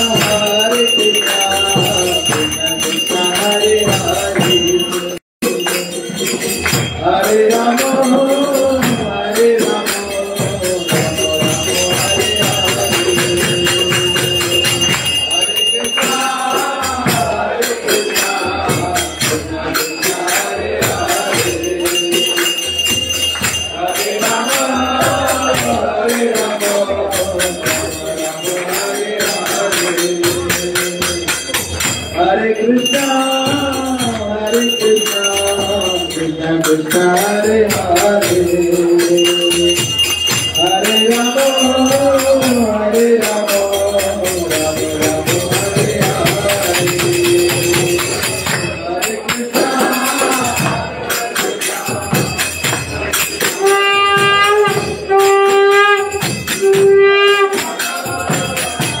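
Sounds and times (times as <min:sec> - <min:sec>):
jingling metal percussion: 0:00.0 - 0:59.0
voices chanting a melodic refrain: 0:00.0 - 0:59.0.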